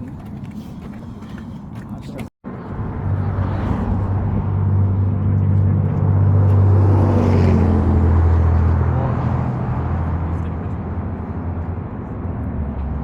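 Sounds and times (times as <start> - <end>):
road noise: 0.0 - 13.0
car engine drone: 2.5 - 13.0.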